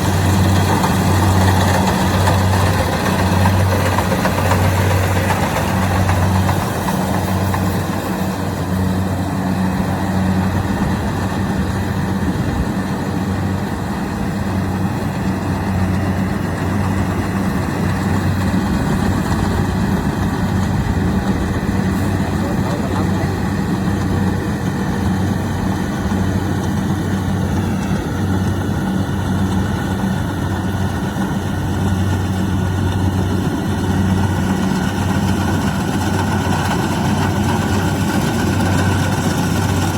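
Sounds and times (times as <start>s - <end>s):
diesel engine running: 0.0s - 39.9s
harvester mechanical noise: 0.0s - 39.9s.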